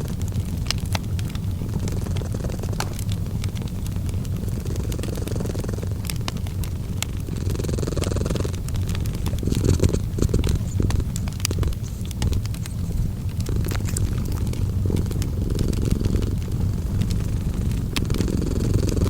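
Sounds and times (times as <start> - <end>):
cat purring: 0.0 - 19.0
fireplace fire crackling: 0.0 - 19.0.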